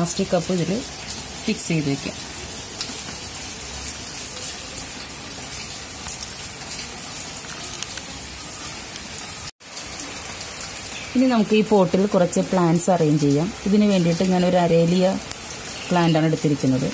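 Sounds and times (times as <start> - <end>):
steady rain hiss: 0.0 - 16.9.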